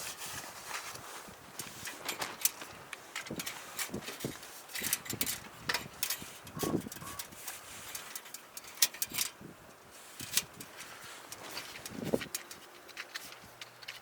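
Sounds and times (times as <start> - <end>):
clicks knocks and rustles: 0.7 - 9.4, 10.2 - 14.0.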